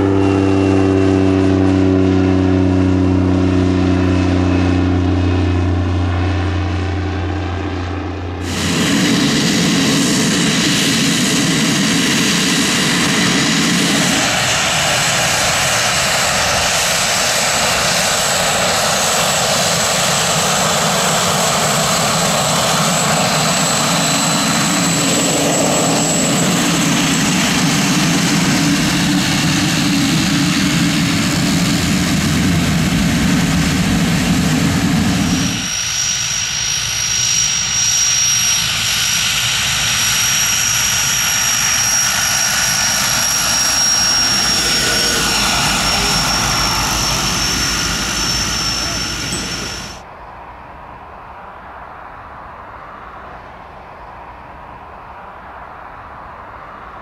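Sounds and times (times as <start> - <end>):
propeller drone: 0.0 - 50.5
turbine whine: 0.0 - 50.5
thin high turbine whine: 0.0 - 57.0.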